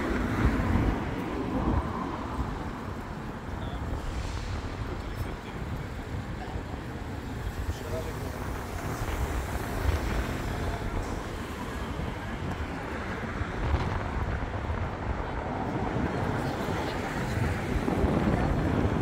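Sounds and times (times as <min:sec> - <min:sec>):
cars and buses passing: 0:00.0 - 0:19.0.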